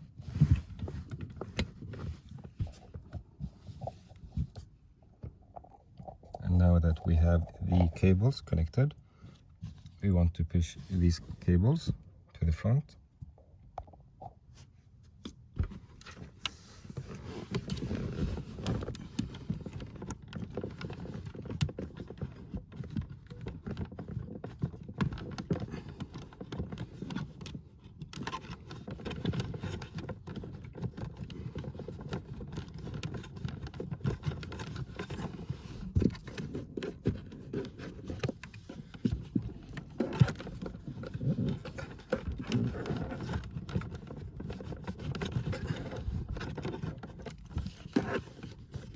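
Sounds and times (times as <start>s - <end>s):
cables rustling and scraping: 0.0s - 12.6s, 13.3s - 48.9s.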